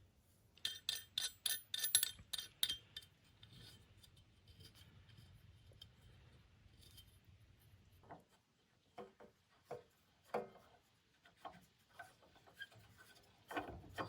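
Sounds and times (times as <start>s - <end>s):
knocks and scrapes of tools: 0.6s - 6.2s, 8.0s - 14.0s.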